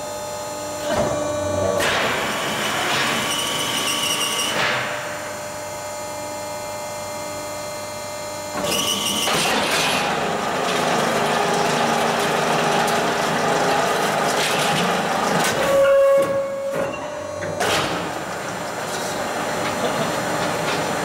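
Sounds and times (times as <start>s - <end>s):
block-making machine clatter and hum: 0.0s - 21.0s
machine whine: 0.0s - 21.0s.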